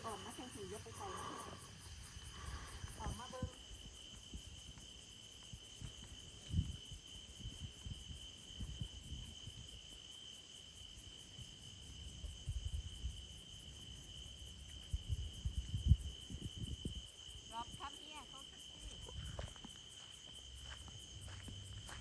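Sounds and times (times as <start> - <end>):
pulsing insect chirp: 0.0 - 22.0.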